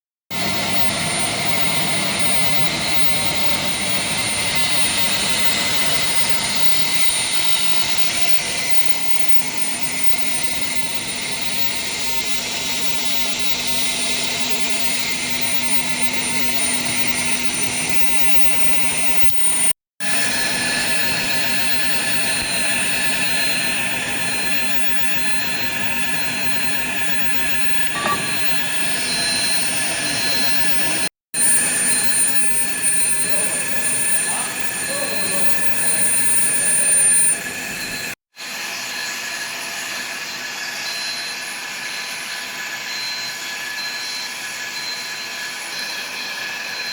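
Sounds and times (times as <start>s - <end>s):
high constant whine: 0.3s - 38.1s
industrial roar: 0.3s - 38.1s.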